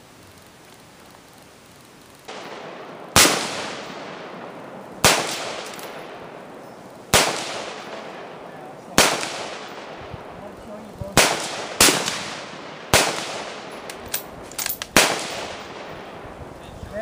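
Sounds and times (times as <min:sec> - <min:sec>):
rifle shots echoing: 0:02.2 - 0:16.5.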